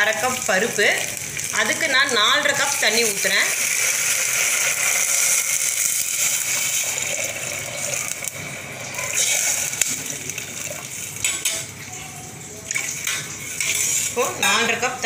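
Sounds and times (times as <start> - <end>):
water pouring and splashing: 0.0 - 14.4.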